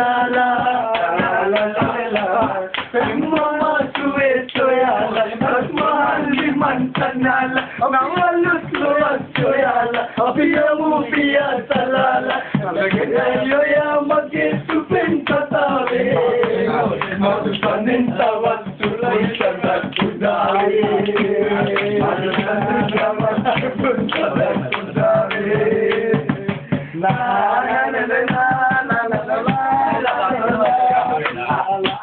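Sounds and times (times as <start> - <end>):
man singing with music: 0.0 - 32.0.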